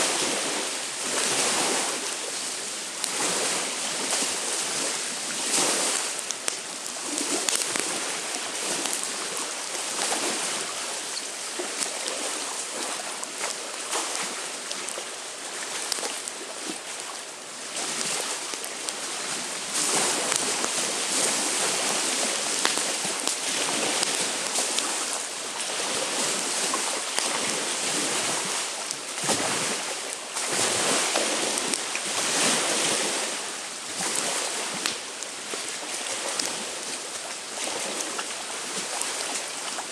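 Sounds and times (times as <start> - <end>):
campfire crackling: 0.0 - 39.9
waves washing onto shore: 0.0 - 39.9
wind: 0.0 - 39.9.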